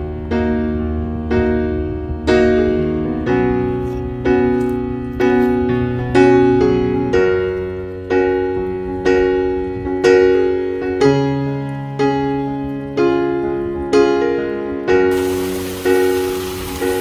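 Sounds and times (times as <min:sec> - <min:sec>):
slow electric piano chords: 0:00.0 - 0:17.0.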